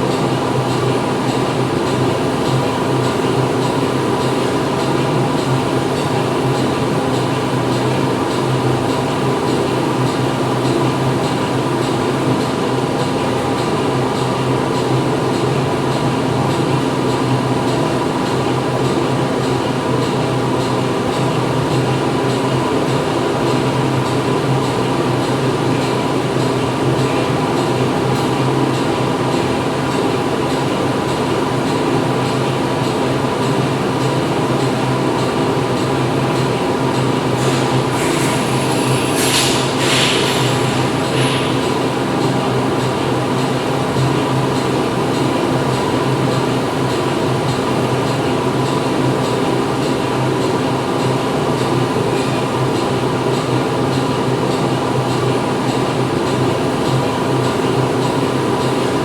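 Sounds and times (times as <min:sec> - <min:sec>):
factory machinery humming: 0:00.0 - 0:59.0.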